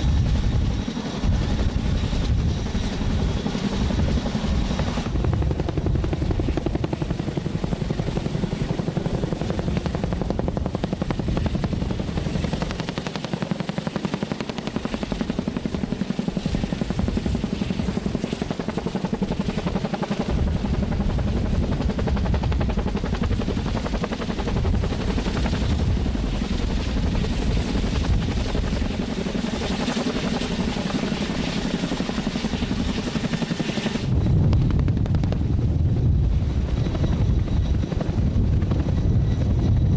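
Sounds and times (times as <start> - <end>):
helicopter rotors beating: 0.0 - 39.9.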